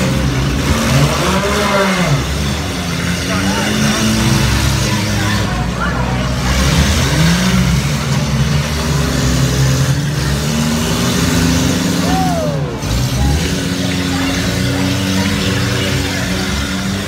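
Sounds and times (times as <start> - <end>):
car engines revving: 0.0 - 17.0
crowd voices: 0.0 - 17.0.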